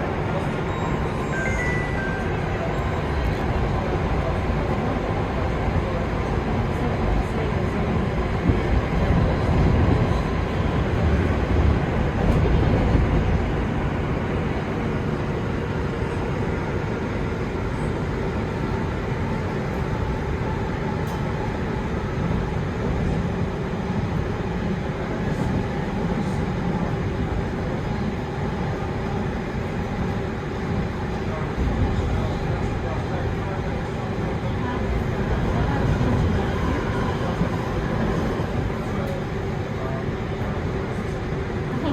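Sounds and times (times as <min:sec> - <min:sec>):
underground train wheels rumbling: 0:02.2 - 0:41.9.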